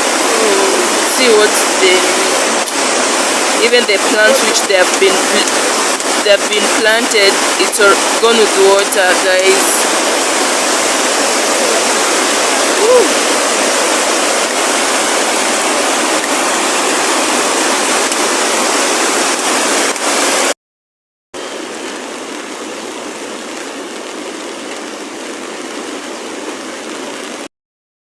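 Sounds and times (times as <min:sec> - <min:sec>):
rushing floodwater: 0:00.0 - 0:20.6, 0:21.4 - 0:27.5.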